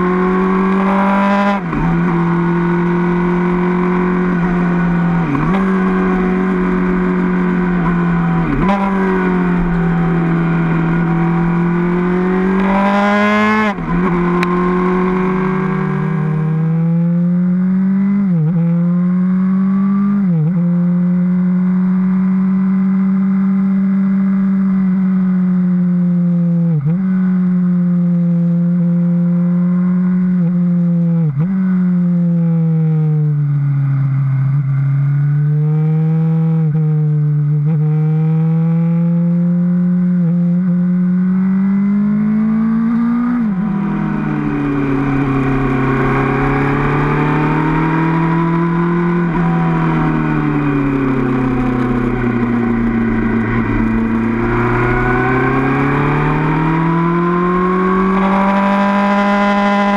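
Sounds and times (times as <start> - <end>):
motorcycle engine running: 0.0 - 38.7, 39.3 - 59.9.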